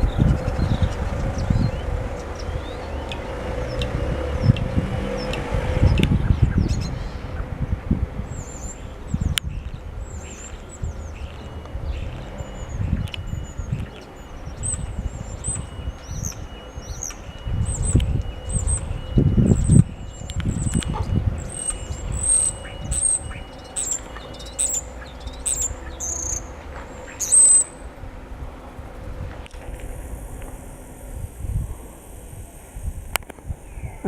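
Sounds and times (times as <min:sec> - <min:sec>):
small birds chirping: 0:00.0 - 0:28.0
low rumbling noise: 0:00.0 - 0:34.0.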